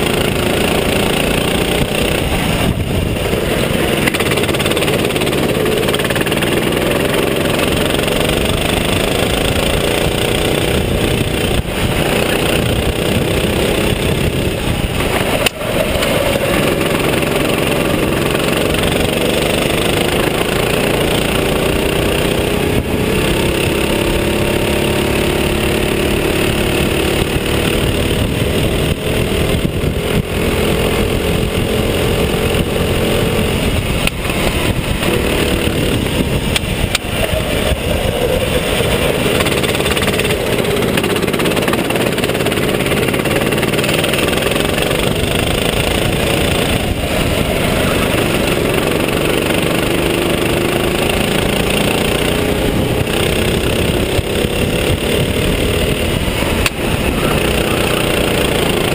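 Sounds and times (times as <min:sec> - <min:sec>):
go-kart engine revving: 0:00.0 - 0:58.9.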